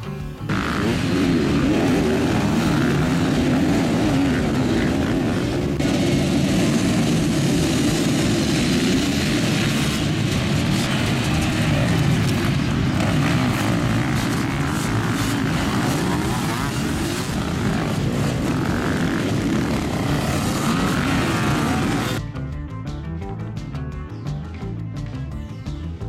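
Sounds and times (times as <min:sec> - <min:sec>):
motocross bikes racing: 0:00.0 - 0:22.2.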